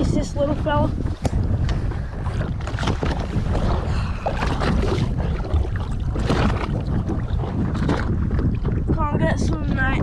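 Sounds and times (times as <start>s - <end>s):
low rumble: 0.0s - 10.0s
rushing wind and water: 0.0s - 10.0s
wind buffeting microphone: 0.0s - 10.0s.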